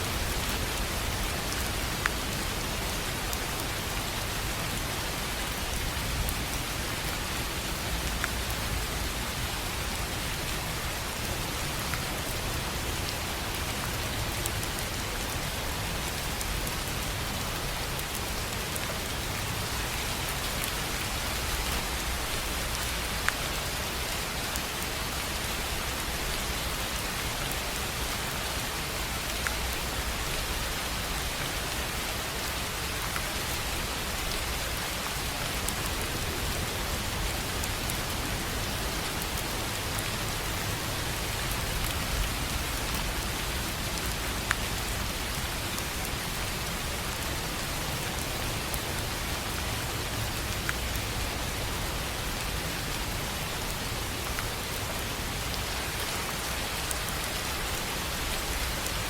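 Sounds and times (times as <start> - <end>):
rain on a tin roof: 0.0 - 59.0.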